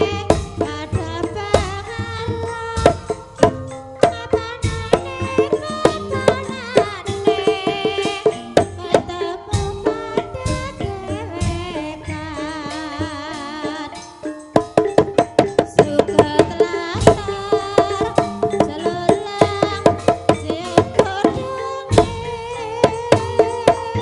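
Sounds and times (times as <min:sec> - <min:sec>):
fast loud drum strikes: 0:00.0 - 0:24.0
held melody with heavy vibrato: 0:00.0 - 0:24.0.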